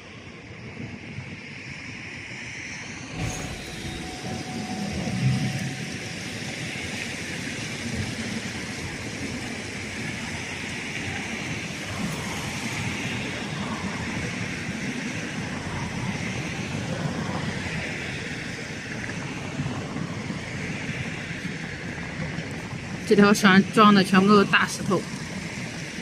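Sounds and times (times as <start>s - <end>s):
ship engine drone: 1.9s - 26.0s.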